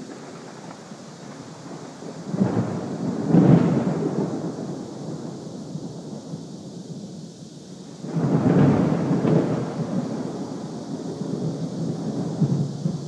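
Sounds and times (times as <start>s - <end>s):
thunder clap and rumble: 0.0s - 6.2s, 8.0s - 13.0s.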